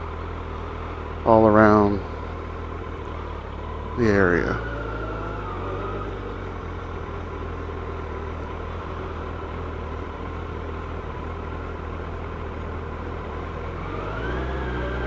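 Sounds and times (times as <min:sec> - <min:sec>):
motorcycle engine idling: 0:00.0 - 0:13.8.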